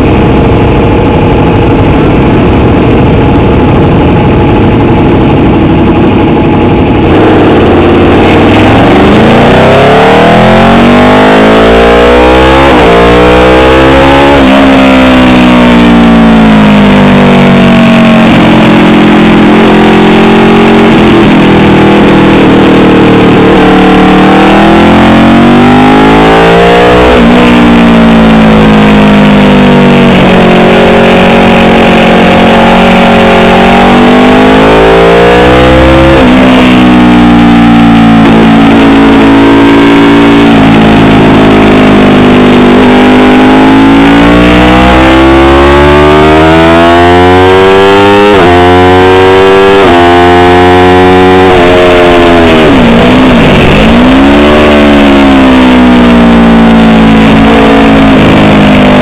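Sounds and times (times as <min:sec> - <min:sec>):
motorcycle engine at speed: 0:00.0 - 0:59.0
quick gear upshifts: 0:00.0 - 0:59.0.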